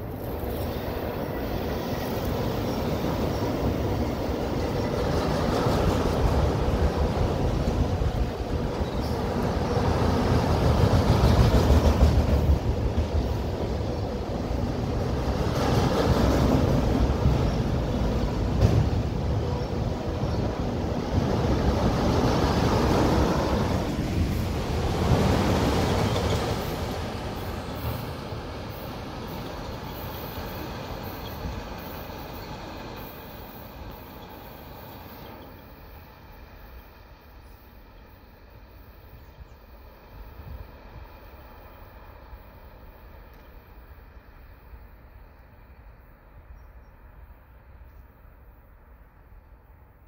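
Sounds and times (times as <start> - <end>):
freight cars rolling on rails: 0.0 - 45.5.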